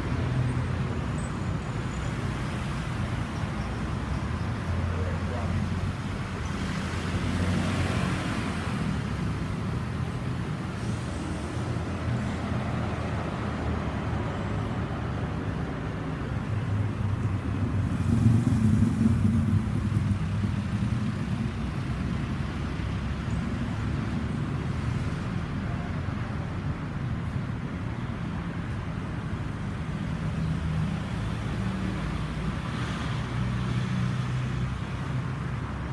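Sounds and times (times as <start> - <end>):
motor vehicle rumbling: 0.0 - 35.9.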